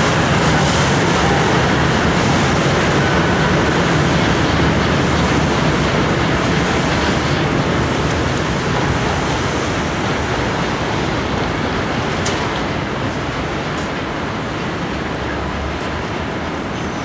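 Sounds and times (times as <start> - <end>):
train carriages rolling on rails: 0.0 - 17.0.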